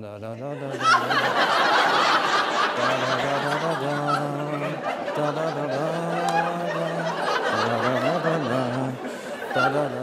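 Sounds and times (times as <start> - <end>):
audience laughter: 0.6 - 10.0.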